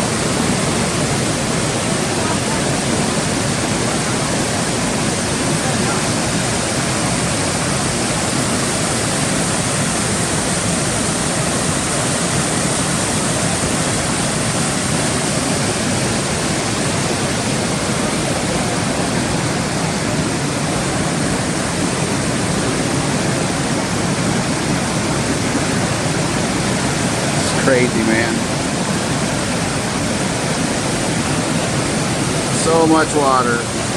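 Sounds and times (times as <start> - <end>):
creek rushing through rapids: 0.0 - 33.9.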